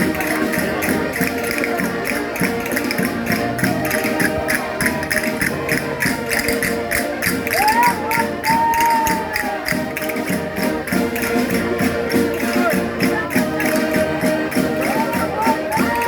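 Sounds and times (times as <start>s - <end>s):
folk dance music on accordions: 0.0s - 16.0s.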